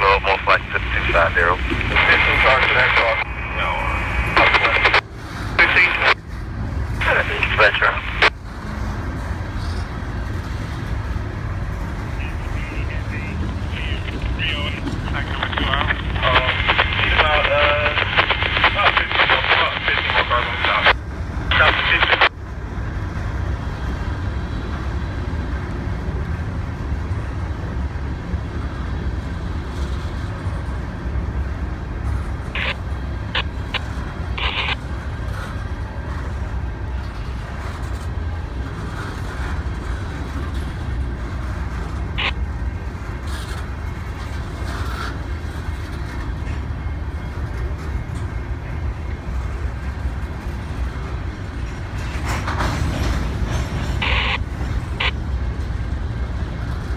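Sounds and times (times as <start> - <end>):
train wheels rumbling on rail: 3.4 - 18.7, 22.4 - 56.9.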